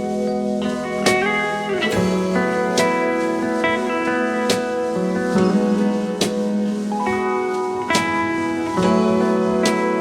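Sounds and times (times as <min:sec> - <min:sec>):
plucked guitar with steady beat: 0:00.0 - 0:10.0.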